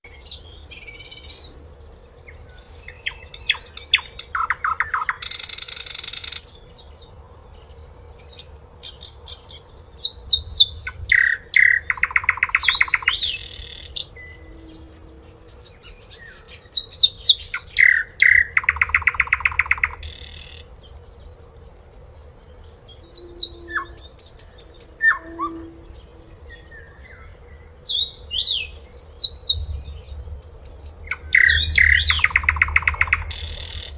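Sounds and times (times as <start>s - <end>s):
bird singing whistled notes and trills: 0.0s - 33.9s
faint steady hum: 0.1s - 33.9s.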